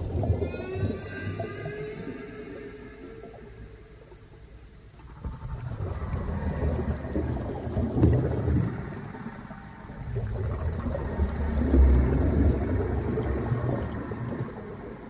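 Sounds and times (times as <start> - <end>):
underwater ocean rumble: 0.0 - 15.0.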